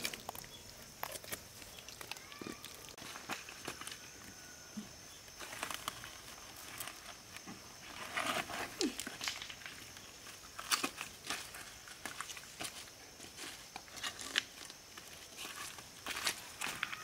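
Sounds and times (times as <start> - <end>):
shuffling on loose stones: 0.0 - 4.4, 5.1 - 17.0.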